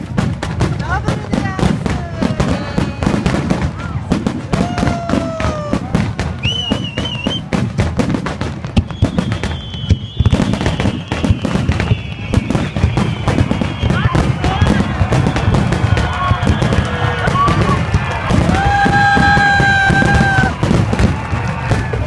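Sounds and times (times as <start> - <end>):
fireworks bursting and crackling: 0.0 - 22.0
fireworks whistles falling in pitch: 1.3 - 22.0
warbling firework whistle: 2.2 - 7.6, 8.6 - 22.0.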